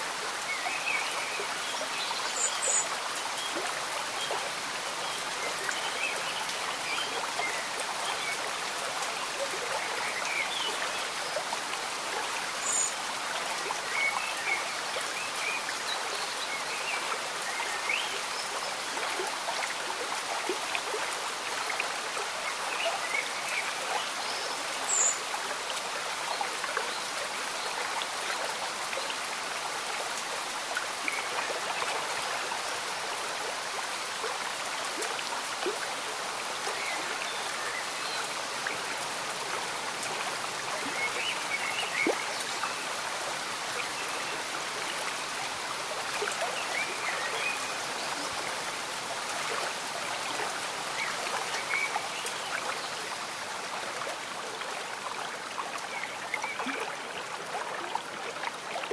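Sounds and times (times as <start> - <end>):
gentle rain falling: 0.0 - 58.9
stream bubbling: 0.0 - 58.9.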